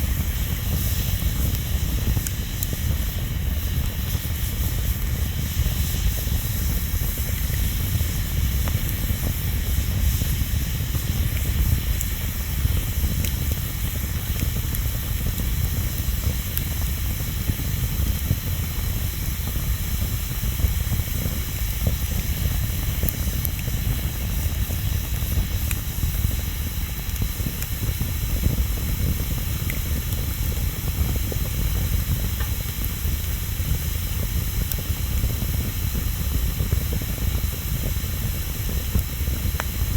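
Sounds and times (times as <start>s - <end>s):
bonfire hiss and rumble: 0.0s - 39.9s
fire crackles: 0.0s - 39.9s.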